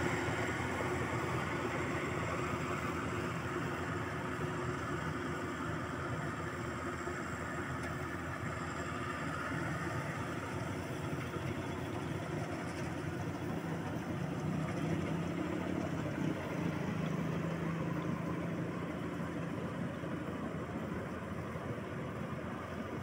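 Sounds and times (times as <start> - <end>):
combine harvester engine droning: 0.0 - 23.0.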